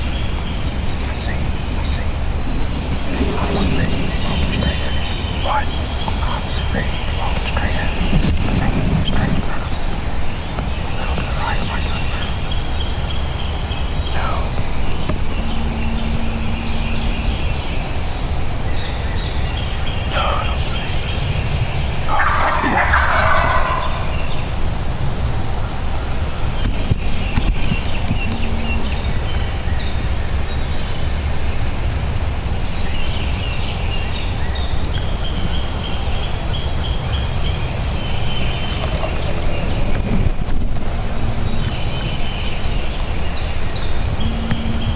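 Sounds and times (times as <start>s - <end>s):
faint low hum: 0.0s - 44.9s
low outdoor rumble: 0.0s - 44.9s
small birds chirping: 0.0s - 44.9s.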